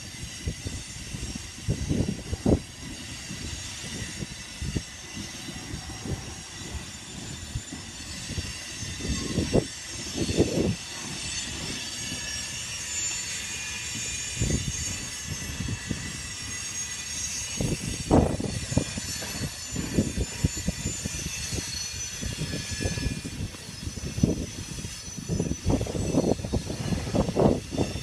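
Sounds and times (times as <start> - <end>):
high wheel squeal: 0.0 - 28.0
train cars rolling past: 0.0 - 28.0.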